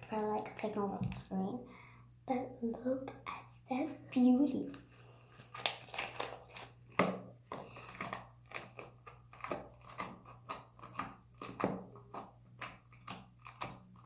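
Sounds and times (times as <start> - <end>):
slime squelching: 0.0 - 1.6, 3.7 - 14.0.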